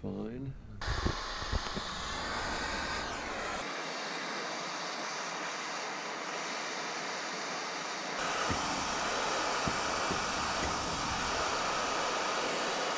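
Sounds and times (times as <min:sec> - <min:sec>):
brazing torch hissing: 0:00.8 - 0:12.9.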